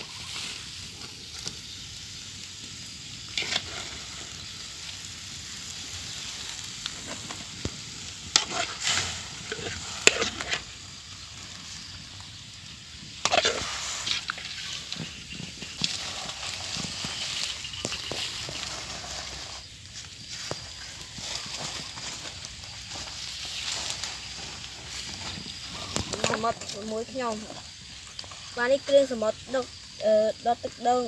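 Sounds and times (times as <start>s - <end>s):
crab sizzling in a wok: 0.0s - 31.0s.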